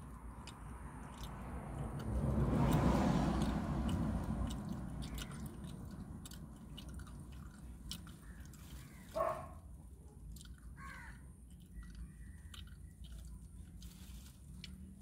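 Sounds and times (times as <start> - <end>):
person chewing crunchy snack: 0.0 - 15.0.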